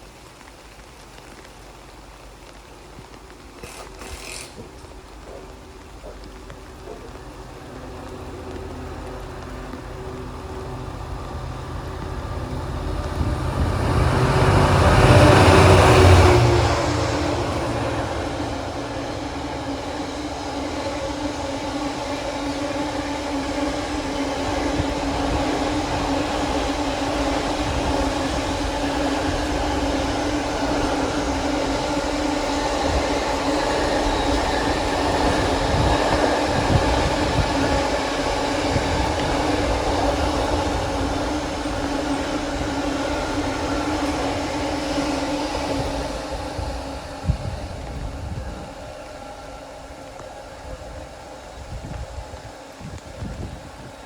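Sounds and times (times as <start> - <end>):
train drone with low hum: 0.0 - 54.0
train passing: 0.0 - 54.0.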